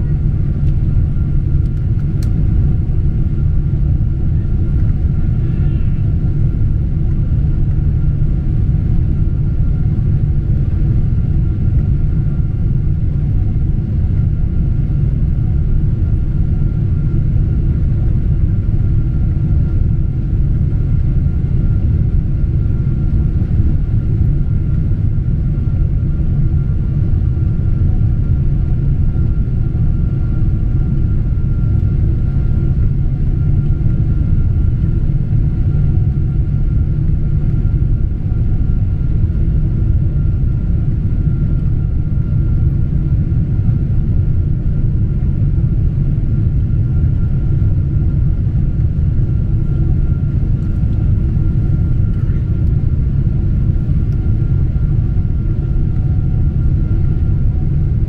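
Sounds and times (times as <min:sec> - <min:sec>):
airliner cabin engine rush: 0:00.0 - 0:58.0.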